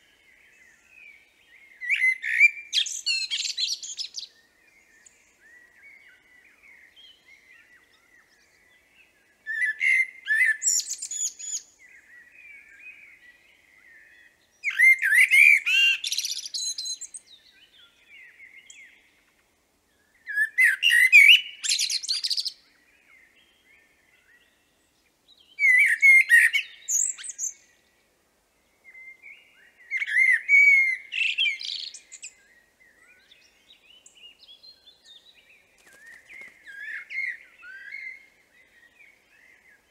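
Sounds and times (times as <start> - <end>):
blackbird singing: 0.0 - 19.2, 20.0 - 28.0, 28.7 - 39.9.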